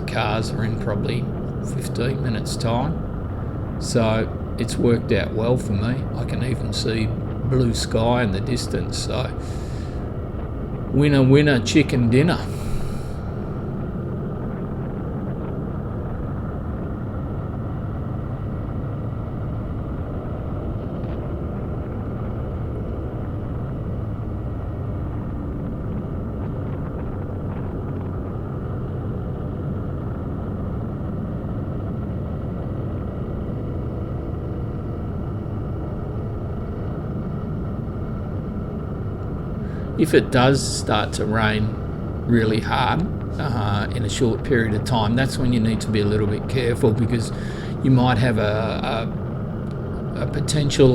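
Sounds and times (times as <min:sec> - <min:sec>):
road noise: 0:00.0 - 0:50.9
wind noise: 0:00.0 - 0:50.9.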